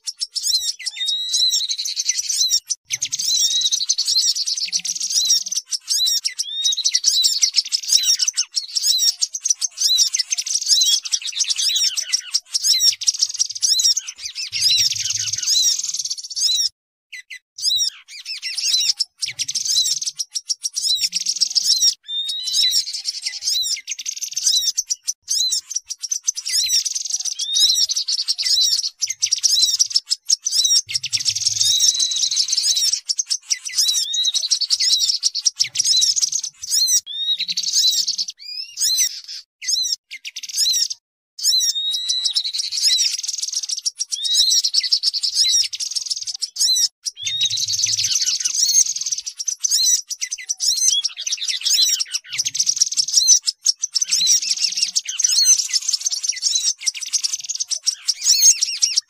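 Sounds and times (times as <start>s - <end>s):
flycatcher calls: 0.0s - 59.0s
small birds chattering and chirping: 0.0s - 59.0s
sunbird calls: 0.0s - 59.0s.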